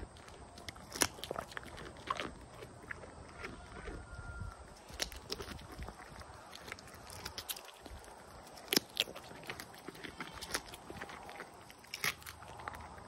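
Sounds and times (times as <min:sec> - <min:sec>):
goat chewing cucumber: 0:00.0 - 0:13.0.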